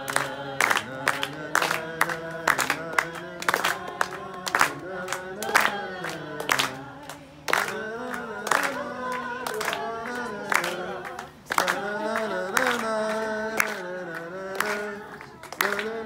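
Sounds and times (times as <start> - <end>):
group singing wordless tune: 0.0 - 16.0
people clapping in time: 0.0 - 16.0.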